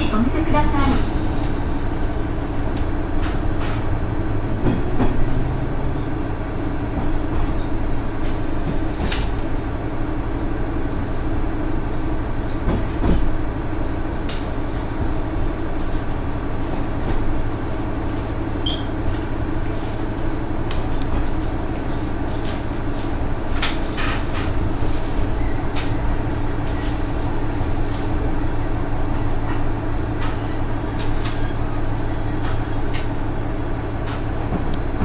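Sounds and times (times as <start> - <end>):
train engine and rail drone: 0.0 - 35.0.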